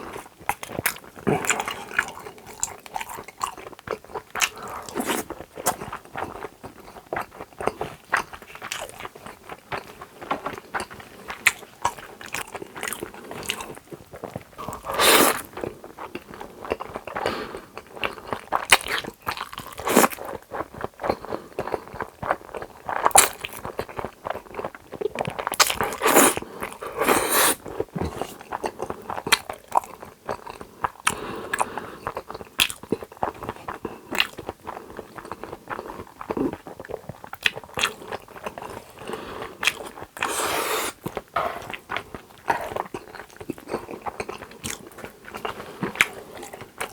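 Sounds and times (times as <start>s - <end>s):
person chewing: 0.1s - 46.9s.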